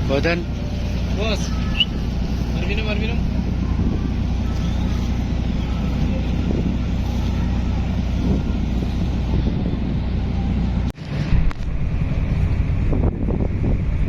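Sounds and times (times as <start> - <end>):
ferry engines droning: 0.0 - 14.0
wind buffeting microphone: 0.0 - 14.0.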